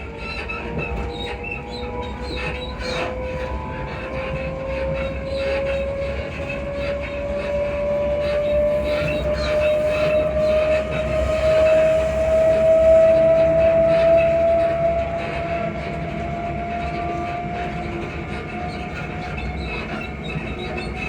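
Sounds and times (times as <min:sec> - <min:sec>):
train running rumble: 0:00.0 - 0:21.0
train motor whine rising: 0:00.7 - 0:18.6.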